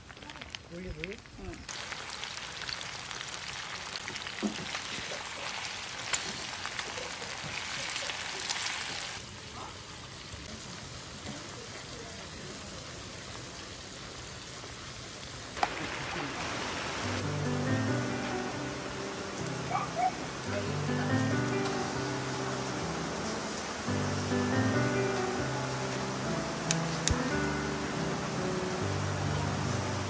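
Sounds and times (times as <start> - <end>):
food sizzling in hot oil: 0.0 - 30.0
steaks sizzling in butter: 0.1 - 9.7, 10.3 - 30.0.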